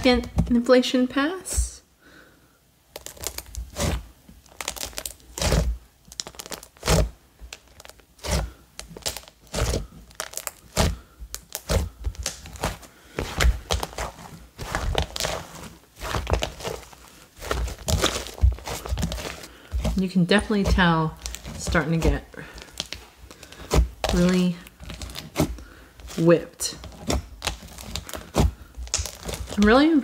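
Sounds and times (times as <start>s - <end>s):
slime stretched and pressed by hand: 2.8s - 30.0s
slime air pockets popping: 2.9s - 30.0s.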